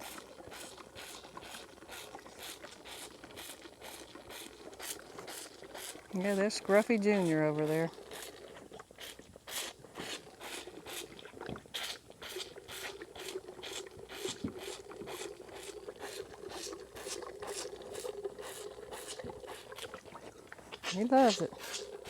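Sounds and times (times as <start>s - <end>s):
calf sucking and slurping milk: 0.0s - 22.0s.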